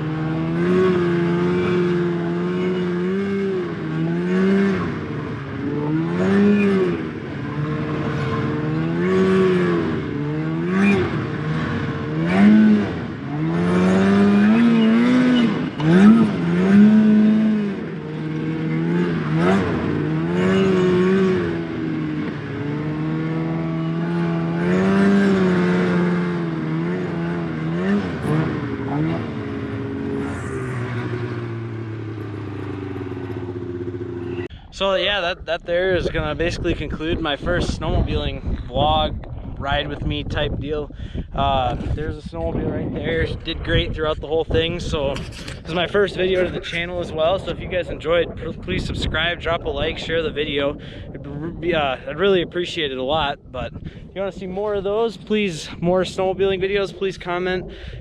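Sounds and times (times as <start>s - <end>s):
snowmobile engine revving: 0.0s - 34.8s, 42.4s - 58.0s.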